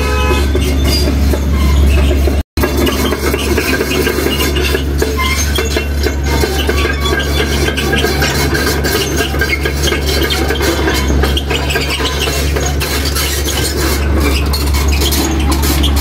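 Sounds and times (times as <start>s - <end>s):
heavy vehicle engine droning: 0.0s - 16.0s.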